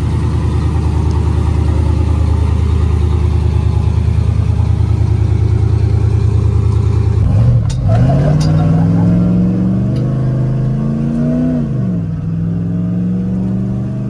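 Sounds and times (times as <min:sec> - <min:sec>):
engine idling and revving: 0:00.0 - 0:14.0.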